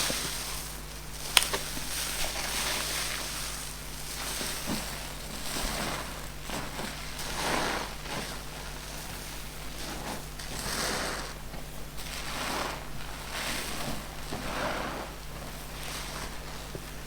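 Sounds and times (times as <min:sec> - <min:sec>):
sponge squelching hiss: 0:00.0 - 0:17.0.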